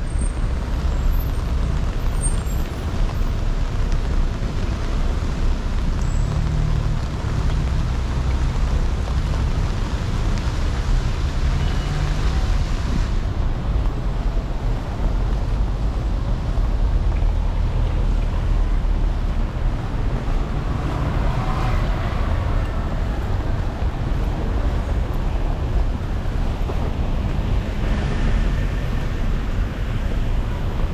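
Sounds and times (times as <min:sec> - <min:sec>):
road traffic: 0:00.0 - 0:30.9
wind rumble on microphone: 0:00.0 - 0:30.9.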